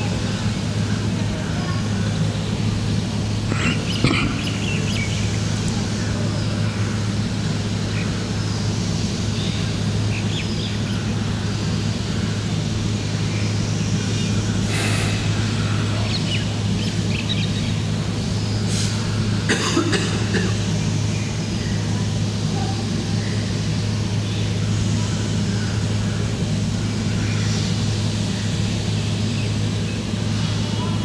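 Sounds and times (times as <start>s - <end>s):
breathy hiss: 0.0s - 10.4s, 11.1s - 31.0s
electrical hum: 0.0s - 31.0s.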